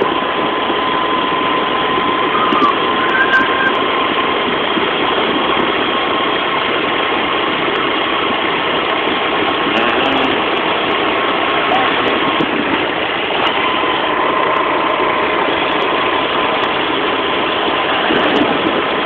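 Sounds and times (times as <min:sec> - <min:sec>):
thin constant whine: 0:00.0 - 0:19.0
vehicle engine and road noise: 0:00.0 - 0:19.0.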